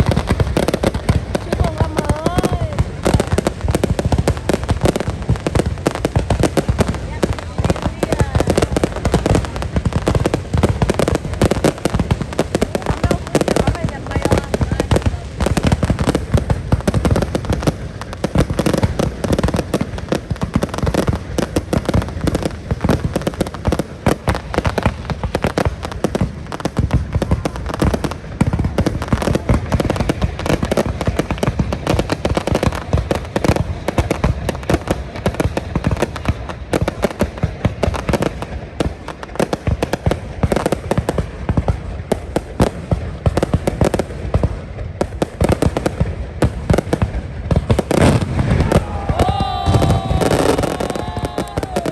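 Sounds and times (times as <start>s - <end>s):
fireworks bursts and crackling: 0.0s - 51.9s.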